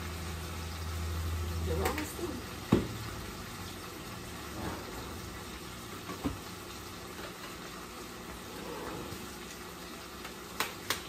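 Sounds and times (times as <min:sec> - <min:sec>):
stew cooking in a pot: 0:00.0 - 0:11.0.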